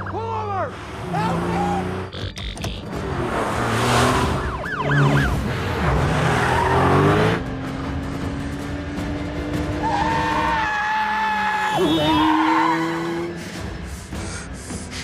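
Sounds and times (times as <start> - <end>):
car engine running hard: 2.8 - 15.0.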